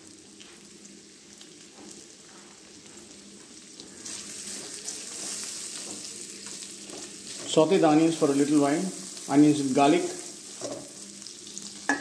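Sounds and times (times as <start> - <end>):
onions sizzling in a wok: 0.0 - 12.0.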